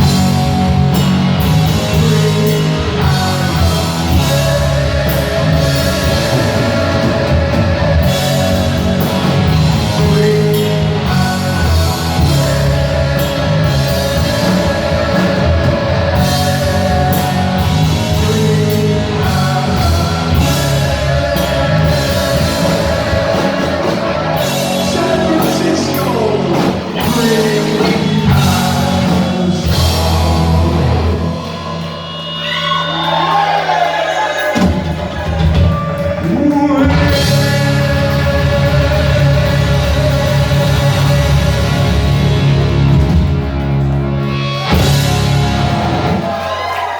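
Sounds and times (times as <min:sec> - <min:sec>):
heavy metal band playing live: 0:00.0 - 0:46.9.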